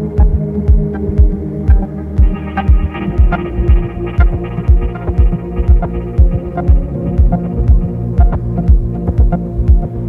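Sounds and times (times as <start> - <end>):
sustained synth chords: 0.0 - 10.0
deep kick drum: 0.1 - 10.0.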